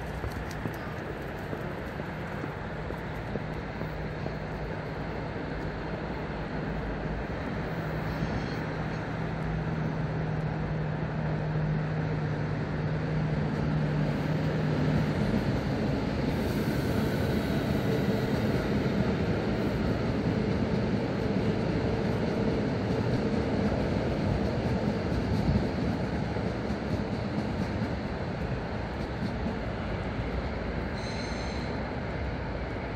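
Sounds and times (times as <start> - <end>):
electric train passing: 0.0 - 32.9.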